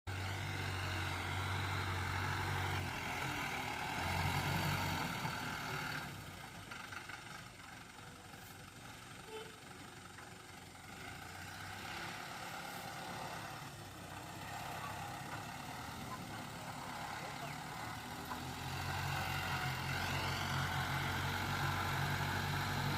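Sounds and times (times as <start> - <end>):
diesel engine running: 0.1 - 22.9.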